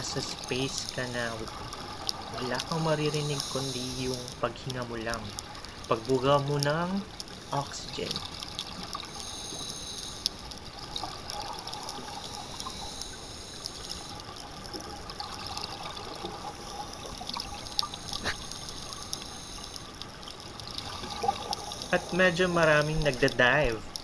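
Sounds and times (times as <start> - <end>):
regulator bubbles gurgling underwater: 0.0 - 24.0
steady watery hiss: 0.0 - 24.0.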